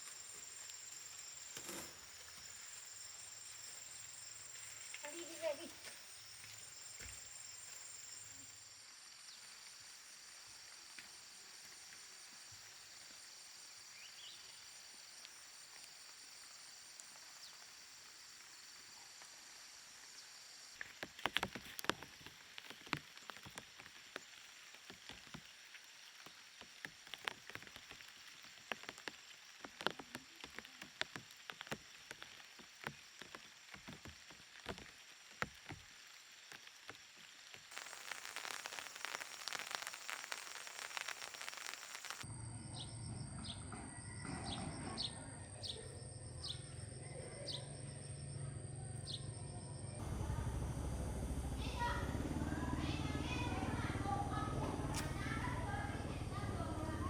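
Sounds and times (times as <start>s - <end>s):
high-pitched insect chorus: 0.0s - 20.9s, 27.2s - 54.0s.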